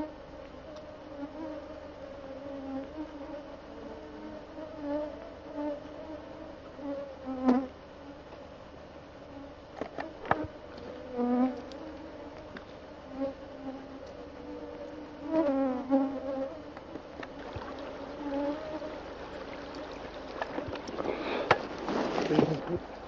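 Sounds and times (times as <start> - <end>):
flies buzzing: 0.0 - 23.0.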